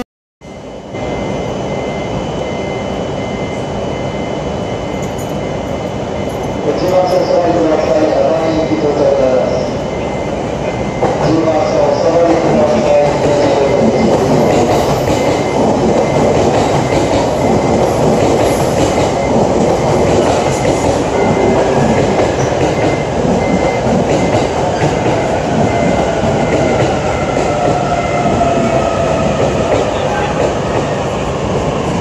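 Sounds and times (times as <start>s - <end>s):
train wheels rumbling on rails: 1.1s - 32.0s.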